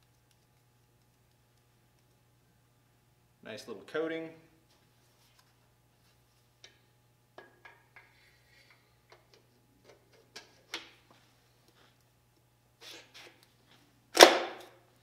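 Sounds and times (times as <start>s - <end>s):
faint low hum: 0.0s - 12.8s.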